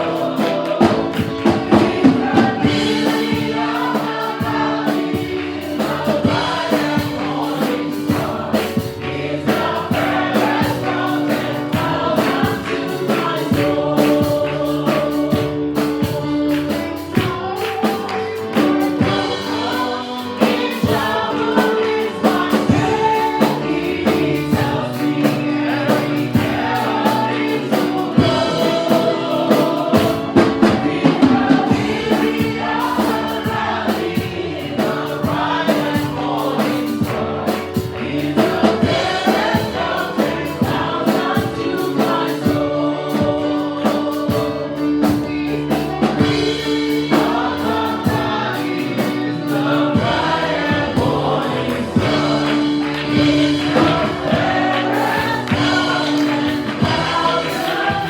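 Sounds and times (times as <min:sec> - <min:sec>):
congregation and choir singing: 0:00.0 - 0:58.0
drums: 0:00.0 - 0:58.0
keyboard: 0:00.0 - 0:58.0.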